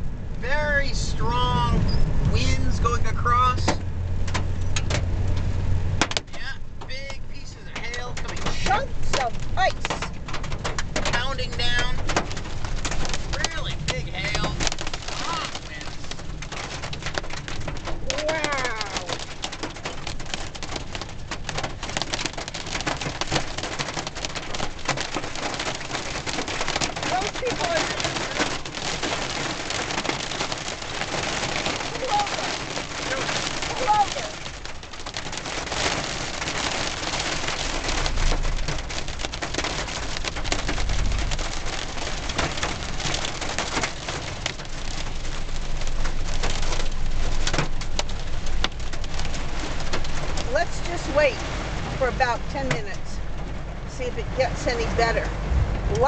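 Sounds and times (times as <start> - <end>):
hail pelting car roof: 0.4 - 56.0.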